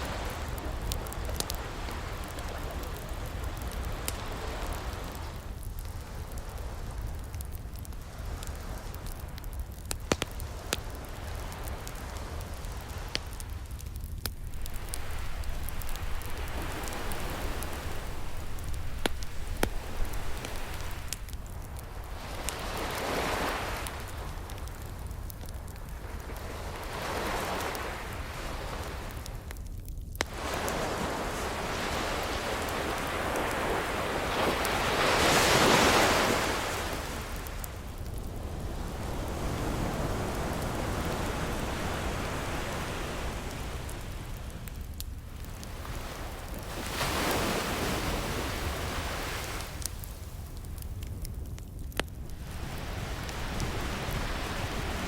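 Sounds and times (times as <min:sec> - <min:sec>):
ocean waves: 0:00.0 - 0:29.5, 0:30.2 - 0:51.1, 0:52.2 - 0:55.0
wood fire crackling: 0:00.0 - 0:55.0.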